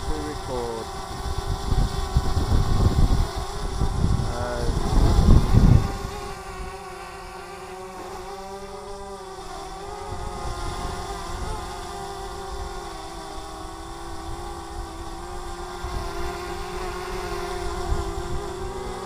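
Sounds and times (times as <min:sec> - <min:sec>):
wind rumble on microphone: 0:00.0 - 0:06.8, 0:09.9 - 0:12.8, 0:13.4 - 0:19.0
drone propeller whine: 0:00.0 - 0:19.0.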